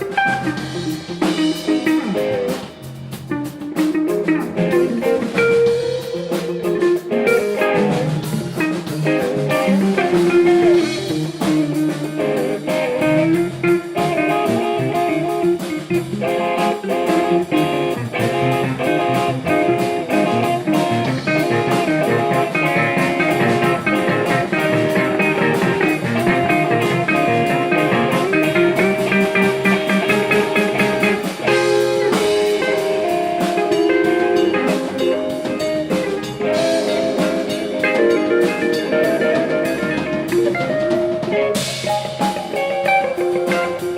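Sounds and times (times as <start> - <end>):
blues band with guitar: 0.0 - 43.9
drum kit beat: 0.0 - 43.9.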